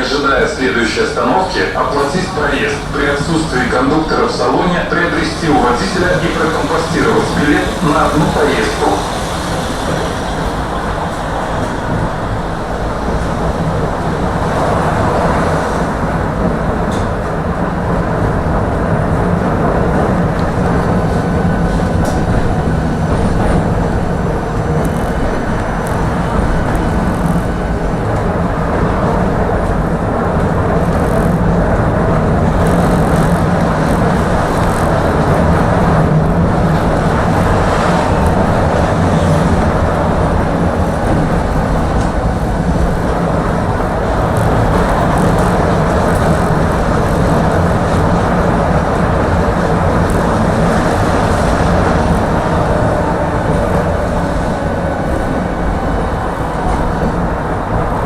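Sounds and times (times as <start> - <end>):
tram running gear rumble: 0.0 - 58.0.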